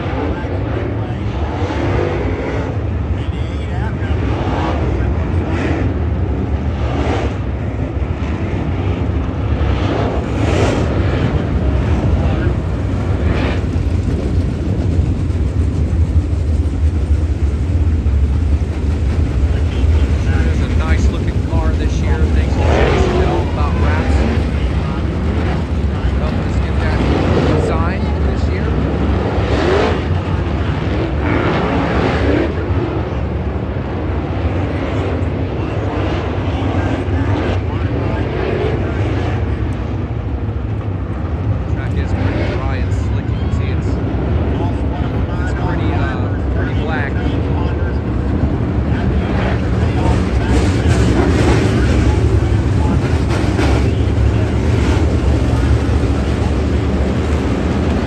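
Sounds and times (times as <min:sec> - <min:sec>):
race car engines rumbling: 0:00.0 - 0:58.0.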